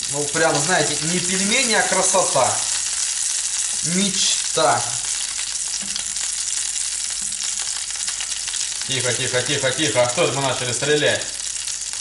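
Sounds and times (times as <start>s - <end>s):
dumplings sizzling in hot oil: 0.0s - 12.0s.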